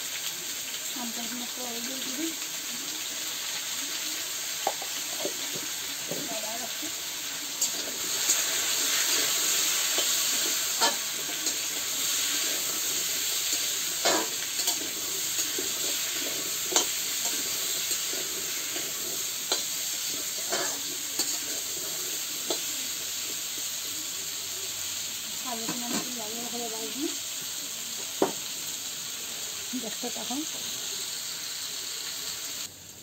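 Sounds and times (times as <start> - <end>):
potatoes frying and sizzling: 0.0 - 33.0.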